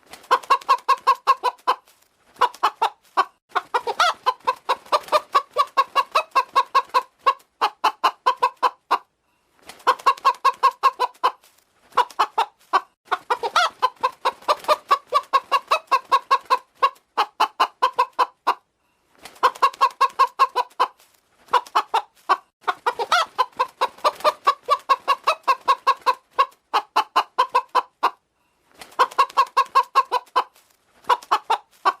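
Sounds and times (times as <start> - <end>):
hen clucking: 0.2 - 9.2, 9.8 - 18.7, 19.3 - 32.0.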